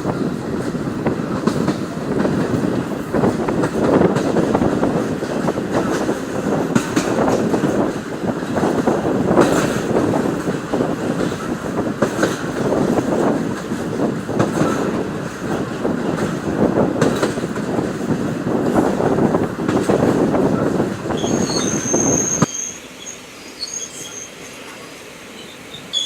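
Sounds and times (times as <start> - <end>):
wheels clacking over rail joints: 0.0 - 22.5
train rumbling along track: 0.0 - 26.0.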